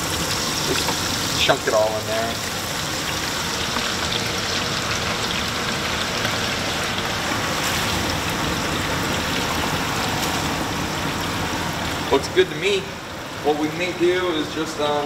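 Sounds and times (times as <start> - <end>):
pork sizzling in hot oil: 0.0 - 15.0.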